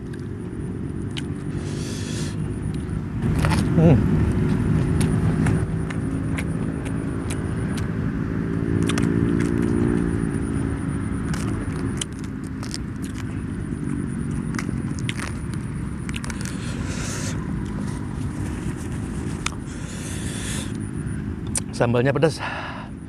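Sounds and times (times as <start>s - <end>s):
faint high whine: 0.0s - 7.9s, 9.8s - 23.0s
vehicle engine rumble: 0.0s - 23.0s
crunchy chewing: 1.0s - 21.7s.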